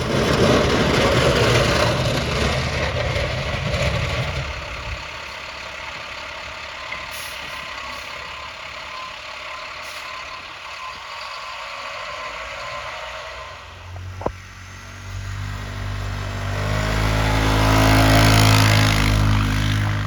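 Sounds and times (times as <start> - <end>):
heavy vehicle engine: 0.0 - 20.0
traffic hiss on snowy road: 3.9 - 20.0.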